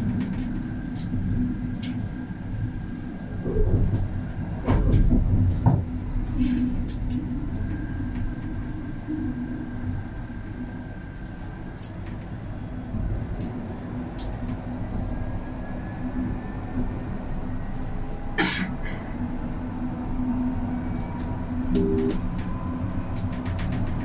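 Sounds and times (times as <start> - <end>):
tram running rumble: 0.0 - 24.0.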